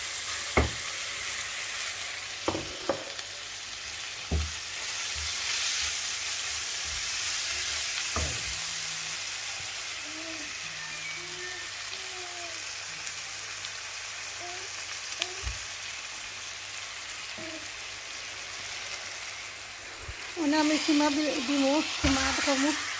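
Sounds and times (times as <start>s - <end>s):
onions sizzling in a pan: 0.0s - 22.9s.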